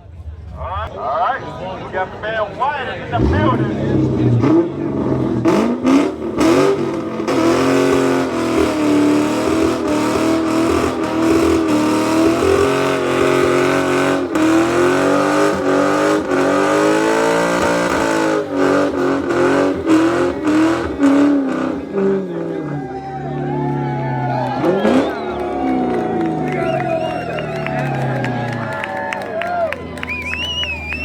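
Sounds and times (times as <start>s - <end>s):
car engine revving: 1.9s - 31.0s
exhaust cracks: 3.0s - 31.0s.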